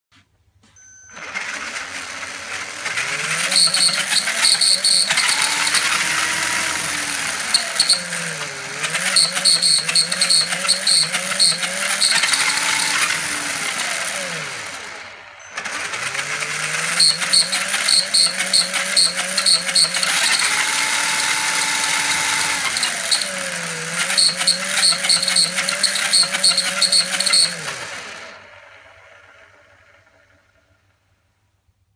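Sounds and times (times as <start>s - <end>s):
electric motor whining: 1.5s - 28.6s.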